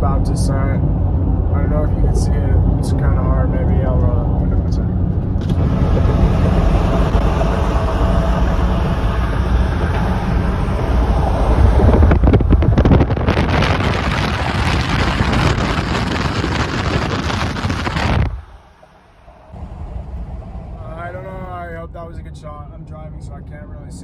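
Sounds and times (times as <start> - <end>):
car road and tyre rumble: 0.0 - 20.9
wind buffeting microphone: 0.0 - 21.4.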